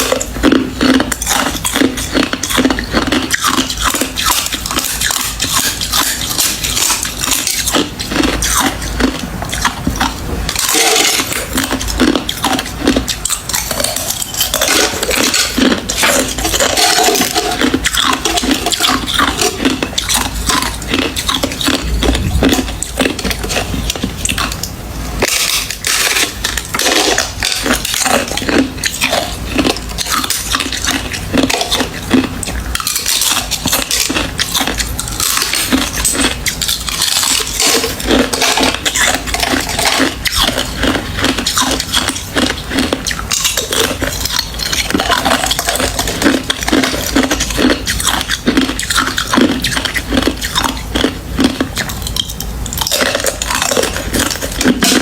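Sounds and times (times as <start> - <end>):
ice being chewed: 0.0 - 55.0.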